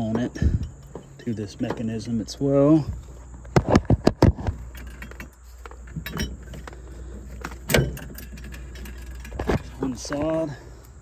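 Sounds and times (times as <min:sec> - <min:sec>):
metal tubes clinking: 0:00.0 - 0:02.4, 0:04.6 - 0:11.0.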